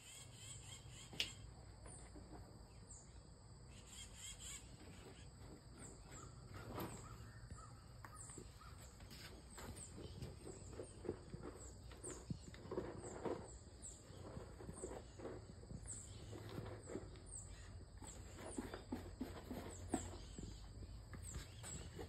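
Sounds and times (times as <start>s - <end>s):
bird chirping: 0.0s - 2.1s, 2.7s - 22.0s.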